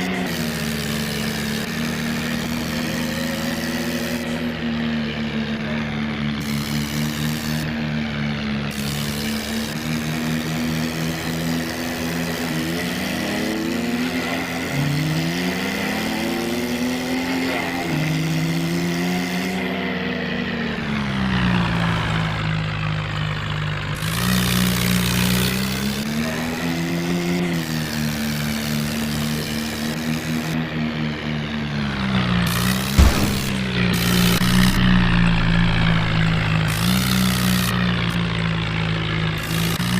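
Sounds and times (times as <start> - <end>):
tractor engine revving: 0.0 - 39.9.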